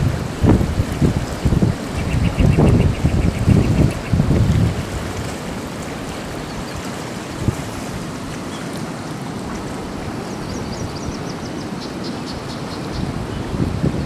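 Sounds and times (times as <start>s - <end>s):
river water rushing: 0.0s - 14.0s
wind: 0.0s - 14.0s.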